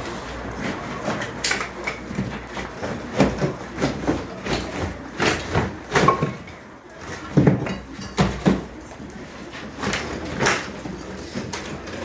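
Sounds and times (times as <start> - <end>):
walls being broken down: 0.0 - 12.0.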